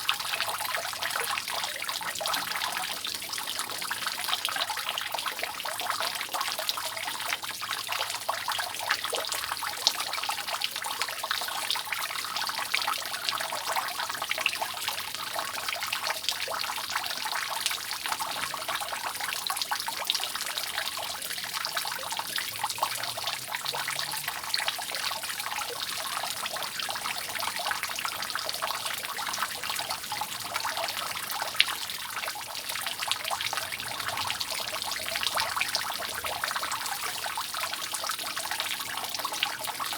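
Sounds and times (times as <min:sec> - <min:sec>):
water dripping off roof: 0:00.0 - 0:39.9.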